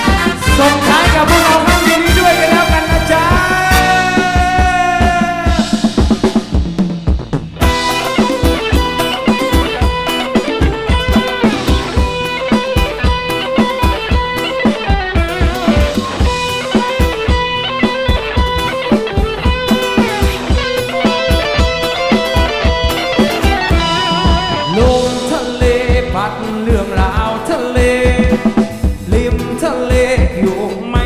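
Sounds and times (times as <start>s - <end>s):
drum-kit beat: 0.0s - 31.0s
guitar: 0.0s - 31.0s.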